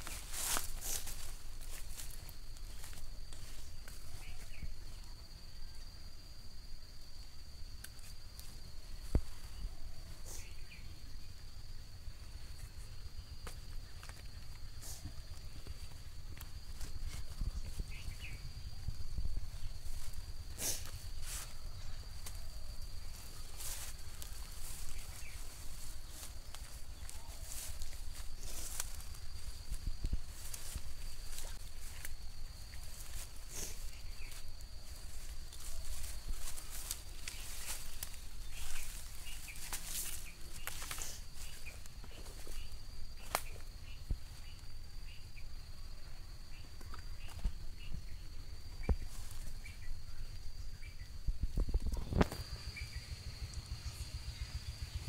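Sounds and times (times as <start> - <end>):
dry grass and leaves rustling: 0.0 - 55.0.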